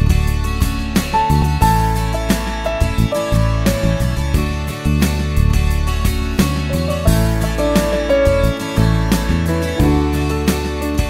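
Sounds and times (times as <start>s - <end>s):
upbeat guitar music with bass beat: 0.0s - 11.0s.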